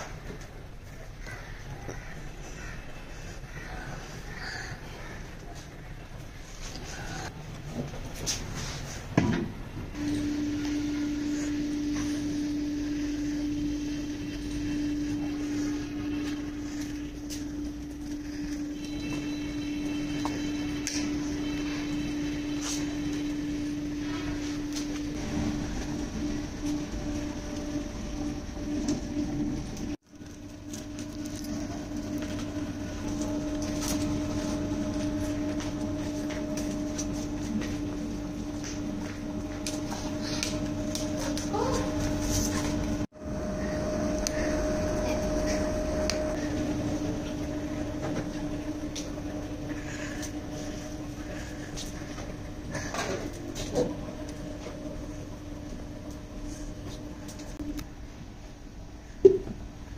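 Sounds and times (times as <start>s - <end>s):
electric blower fan humming: 5.3s - 59.9s.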